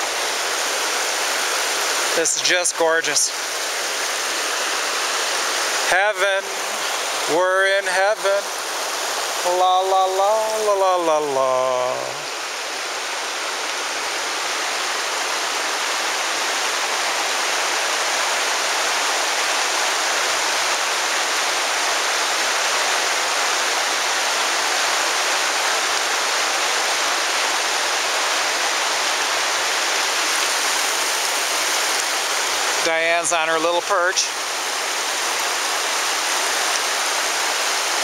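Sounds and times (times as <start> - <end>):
river flowing: 0.0 - 38.0.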